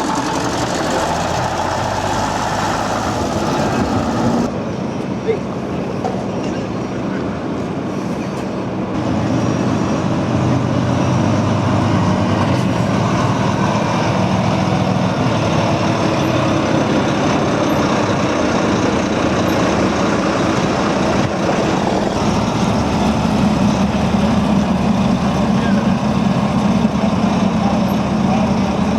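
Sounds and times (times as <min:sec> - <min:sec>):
travel noise: 0:00.0 - 0:28.9
vehicle engine hum: 0:00.0 - 0:28.9.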